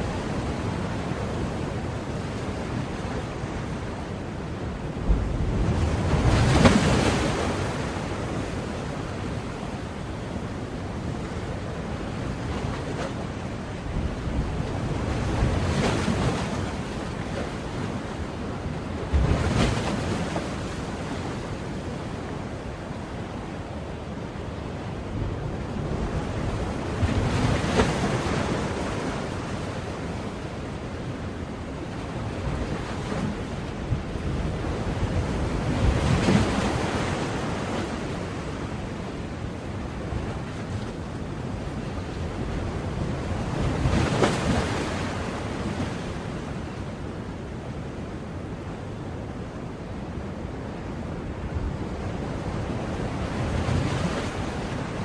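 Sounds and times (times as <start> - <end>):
continuous surf wash: 0.0 - 55.0
waves crashing on shore: 0.0 - 55.0.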